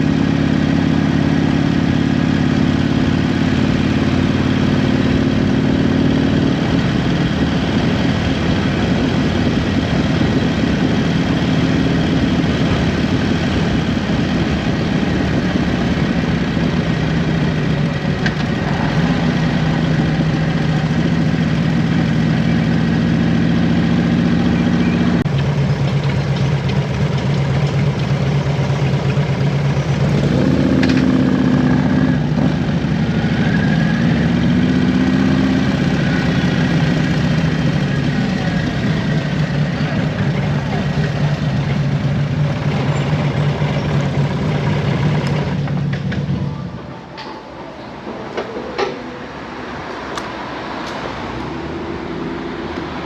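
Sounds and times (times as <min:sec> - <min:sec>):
motorcycle engine running: 0:00.0 - 0:46.8
wind and road noise: 0:00.0 - 0:53.0.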